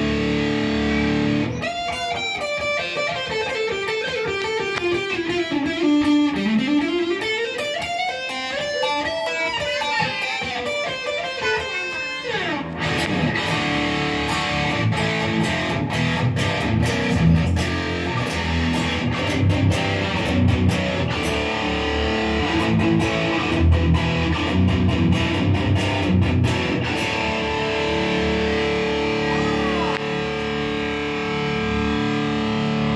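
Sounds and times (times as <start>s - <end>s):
electric guitar playing: 0.0s - 32.9s.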